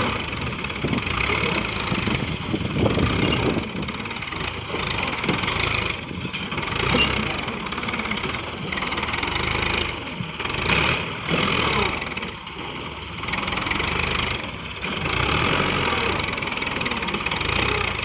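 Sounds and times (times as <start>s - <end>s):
diesel tractor engine labouring: 0.0s - 18.0s.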